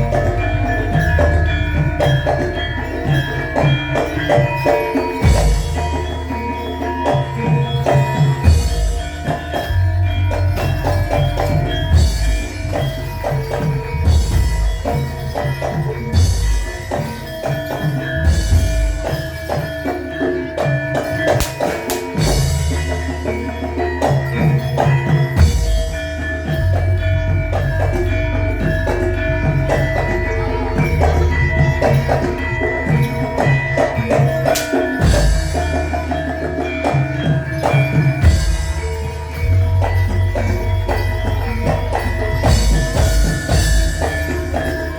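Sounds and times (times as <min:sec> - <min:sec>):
drums striking steady beat: 0:00.0 - 0:44.9
ringing metal percussion tones: 0:00.0 - 0:44.9.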